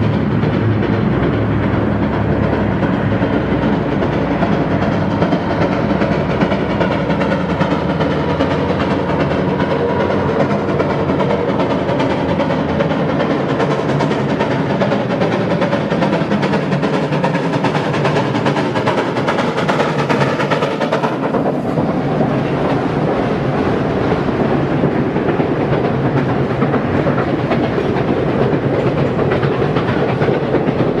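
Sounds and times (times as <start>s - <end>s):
train wheels clacking on rails: 0.0s - 31.0s.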